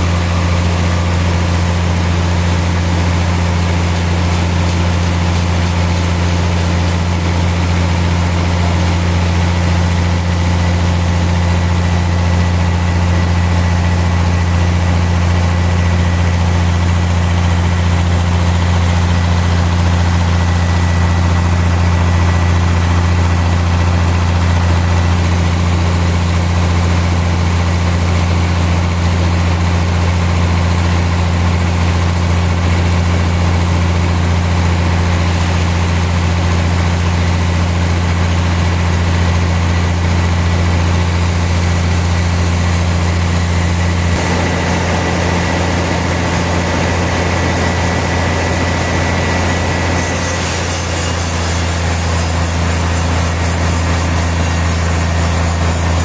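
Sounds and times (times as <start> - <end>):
deep engine hum: 0.0 - 52.5
sawmill machinery running: 0.0 - 56.0.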